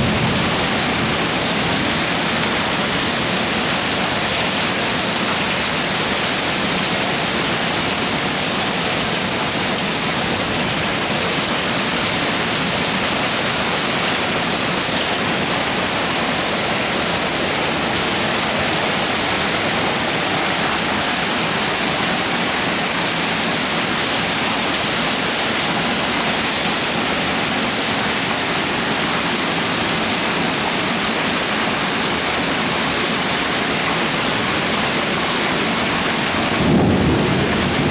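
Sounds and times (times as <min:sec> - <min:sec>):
heavy rain falling: 0:00.0 - 0:37.9.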